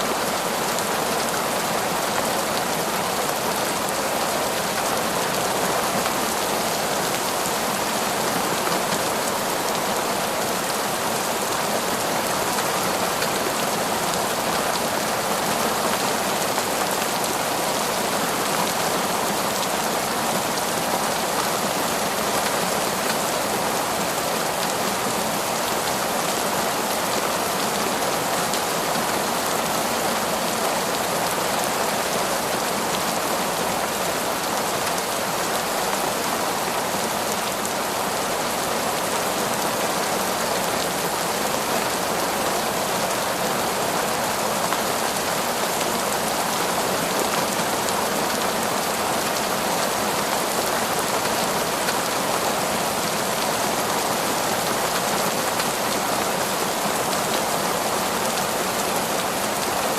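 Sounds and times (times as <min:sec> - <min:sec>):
heavy rain on forest: 0:00.0 - 0:59.9.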